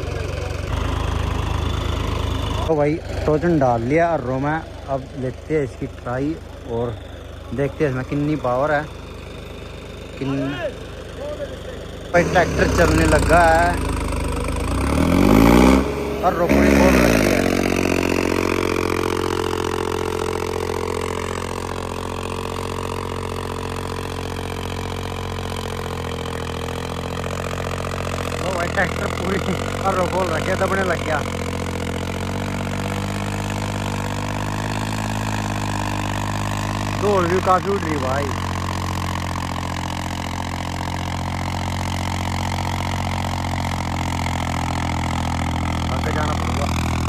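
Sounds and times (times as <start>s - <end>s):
diesel tractor engine under load: 0.0s - 47.0s.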